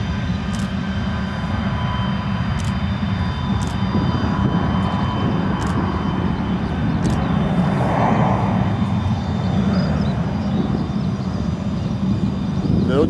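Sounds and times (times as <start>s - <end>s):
low jet engine rumble: 0.0s - 13.0s.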